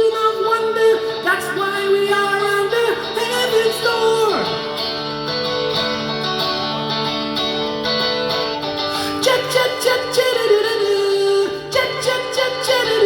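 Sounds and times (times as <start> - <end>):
plucked string instrument: 0.0 - 13.0.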